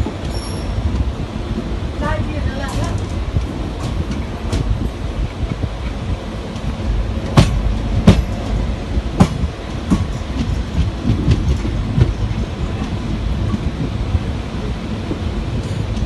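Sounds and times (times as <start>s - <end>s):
train rumbling along rails: 0.0s - 16.0s
wheels clacking on rail joints: 0.0s - 16.0s.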